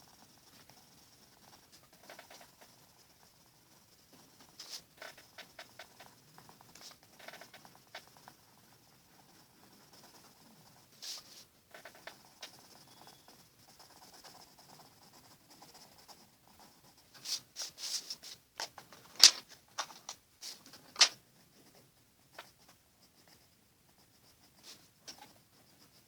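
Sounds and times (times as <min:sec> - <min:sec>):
pencil scratching on paper: 0:00.0 - 0:26.0.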